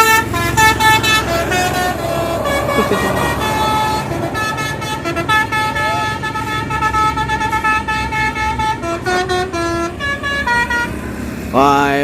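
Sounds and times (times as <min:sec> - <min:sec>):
musical air horn: 0:00.0 - 0:11.2.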